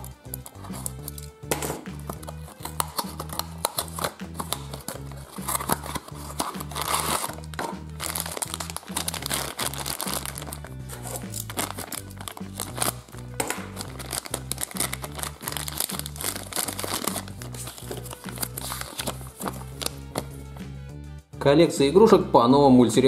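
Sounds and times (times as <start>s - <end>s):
plastic packaging crinkling and tearing: 0.0s - 1.3s, 2.0s - 20.3s
background music with bass line: 0.0s - 23.0s.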